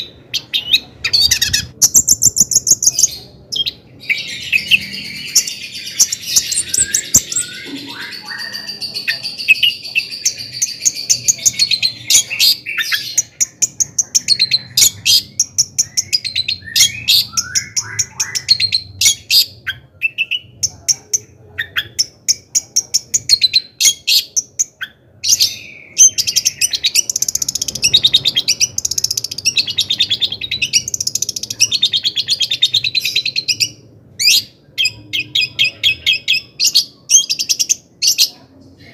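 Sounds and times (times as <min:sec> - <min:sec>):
bird singing chattering notes: 0:00.0 - 0:38.2.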